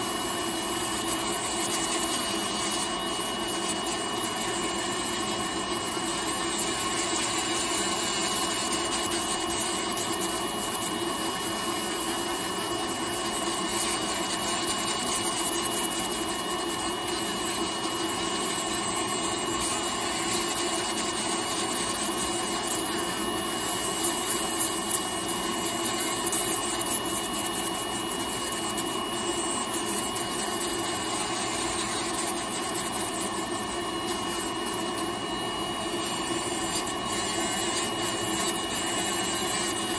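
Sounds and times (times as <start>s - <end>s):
electric nail drill whining: 0.0s - 39.9s.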